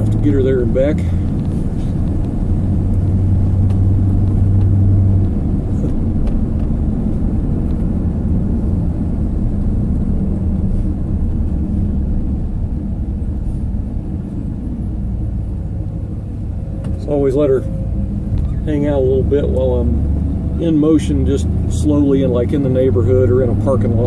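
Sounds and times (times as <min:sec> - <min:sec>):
low hum: 0:00.0 - 0:23.8
truck engine and road rumble: 0:00.0 - 0:24.0.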